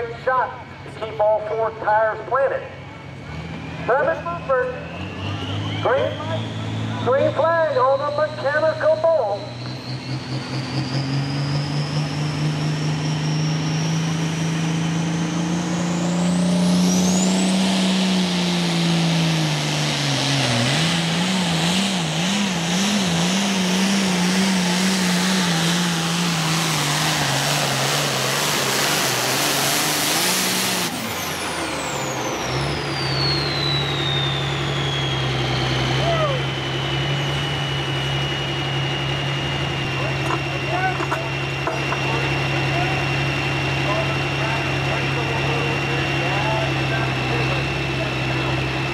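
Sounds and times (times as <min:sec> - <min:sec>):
high whine: 0:00.0 - 0:48.9
tractor diesel engine under load: 0:00.0 - 0:48.9.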